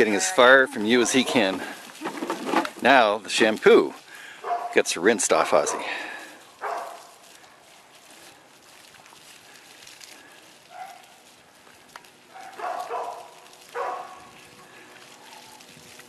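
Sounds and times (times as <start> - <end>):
hose water hissing: 0.0 - 16.0.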